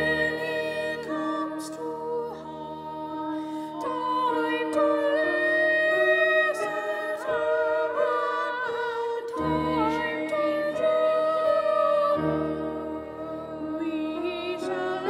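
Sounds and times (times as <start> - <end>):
boys singing in harmony: 0.0 - 15.0.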